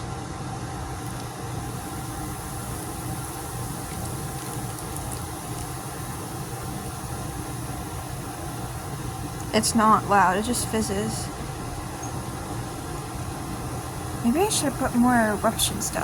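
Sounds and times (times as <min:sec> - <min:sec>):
eruption mix fizzing: 0:00.0 - 0:16.0
low mechanical hum: 0:00.0 - 0:16.0.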